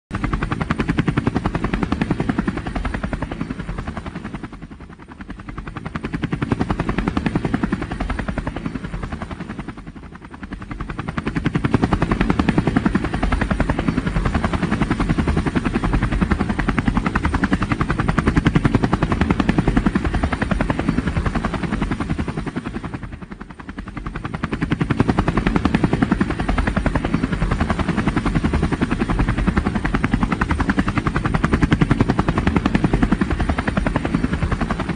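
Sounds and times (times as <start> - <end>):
helicopter rotor blades chopping: 0.1 - 34.9.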